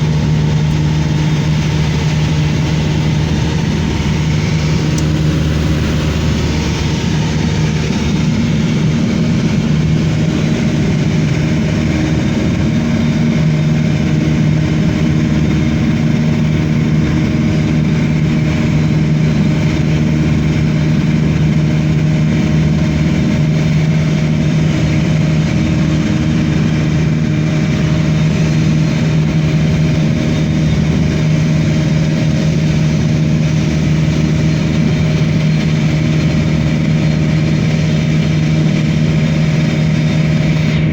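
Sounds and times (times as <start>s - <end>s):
aircraft engines droning: 0.0s - 40.9s.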